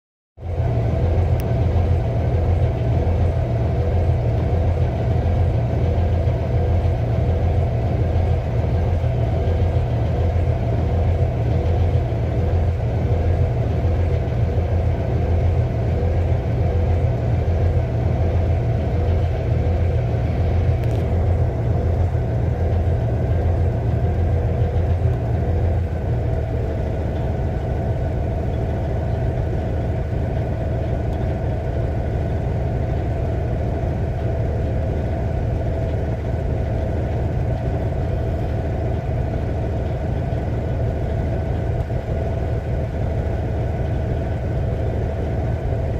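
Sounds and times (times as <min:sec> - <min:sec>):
diesel engine rough idle: 0:00.4 - 0:45.9.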